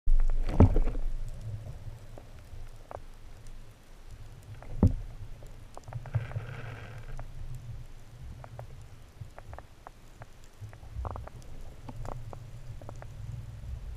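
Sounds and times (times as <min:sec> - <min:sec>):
muffled underwater rumble: 0:00.1 - 0:13.9
small clicks: 0:00.2 - 0:13.4.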